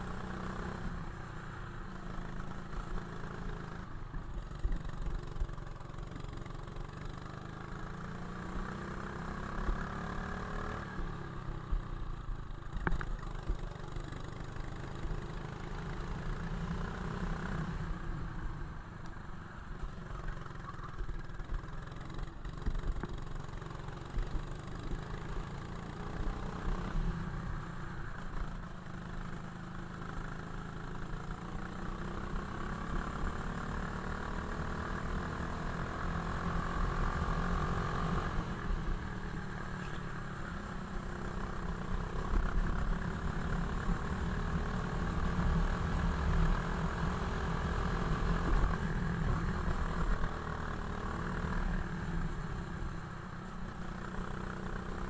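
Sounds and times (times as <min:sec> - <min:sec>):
go-kart engine: 0:00.0 - 0:55.0.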